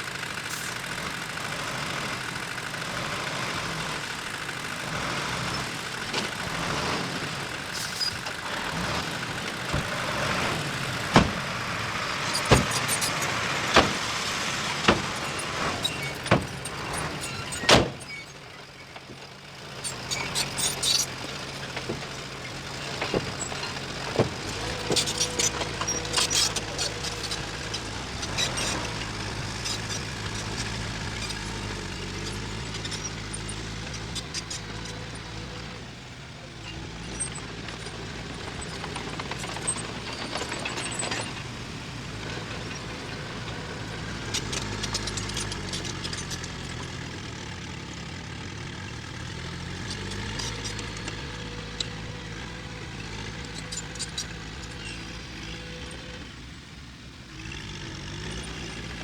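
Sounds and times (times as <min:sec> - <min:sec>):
heavy machine engine running: 0:00.0 - 0:59.0.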